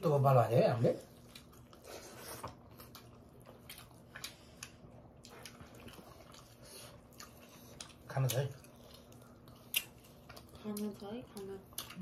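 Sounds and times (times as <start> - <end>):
lip smacks and chewing: 1.2 - 12.0.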